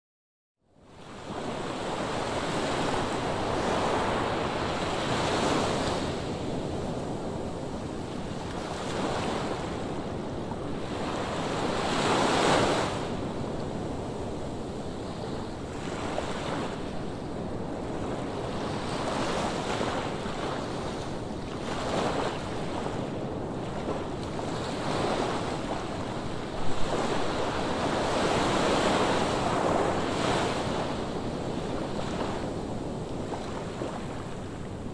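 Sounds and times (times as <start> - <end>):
wind buffeting microphone: 3.0 - 34.9.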